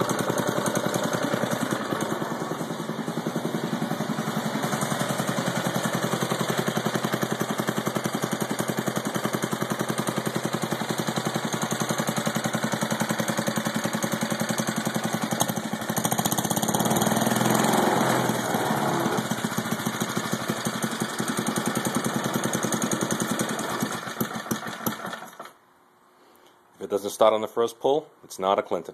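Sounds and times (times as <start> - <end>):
small engine idling: 0.0 - 25.6.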